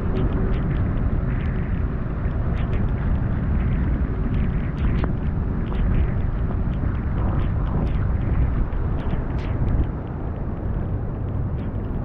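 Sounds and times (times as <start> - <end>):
raindrop ticks: 0.0 - 12.0
wind rumble: 0.0 - 12.0.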